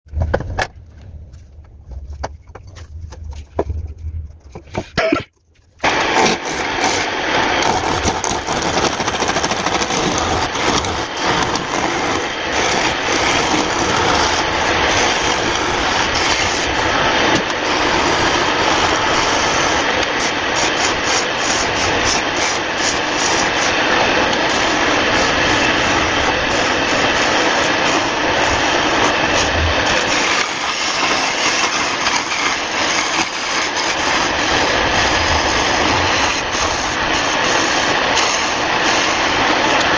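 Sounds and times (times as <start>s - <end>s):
power tool cutting wood: 5.8s - 39.9s.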